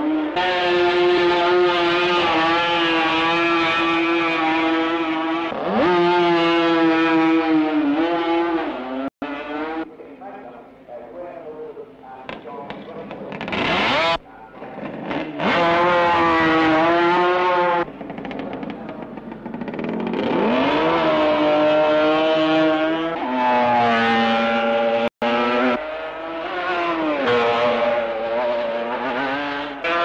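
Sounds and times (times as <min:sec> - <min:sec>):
racing engines at high revs: 0:00.0 - 0:10.0, 0:12.7 - 0:30.0.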